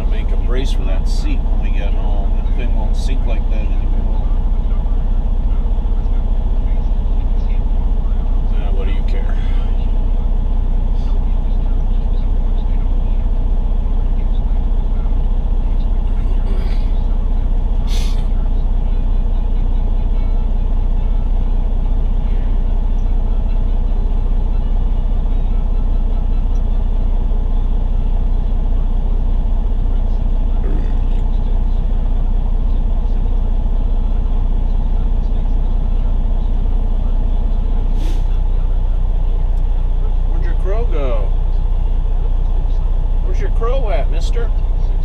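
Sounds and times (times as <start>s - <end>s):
diesel truck engine idling: 0.0s - 45.0s.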